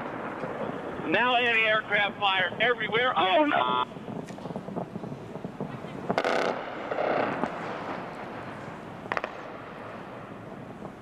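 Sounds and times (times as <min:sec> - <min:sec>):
anti-aircraft fire cracks: 0:00.0 - 0:11.0.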